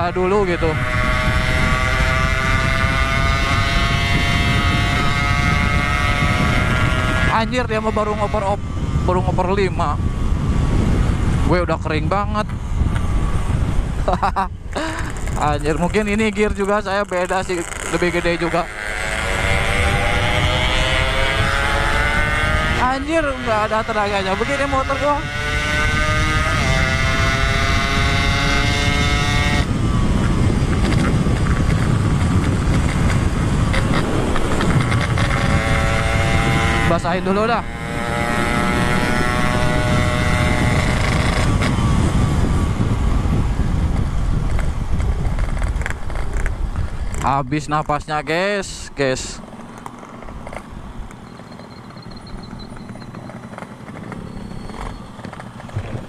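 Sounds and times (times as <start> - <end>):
motorcycle engine at high revs: 0.0 - 56.0
wind rush on microphone: 0.0 - 56.0.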